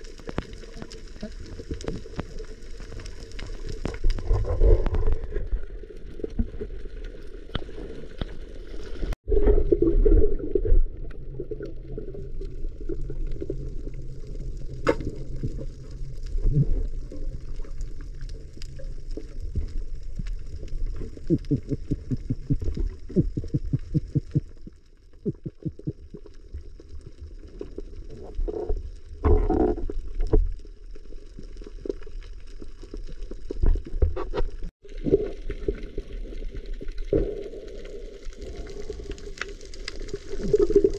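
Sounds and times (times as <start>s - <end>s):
clicks and crackles: 0.0s - 9.2s, 11.0s - 40.9s
muffled underwater rumble: 0.0s - 40.9s.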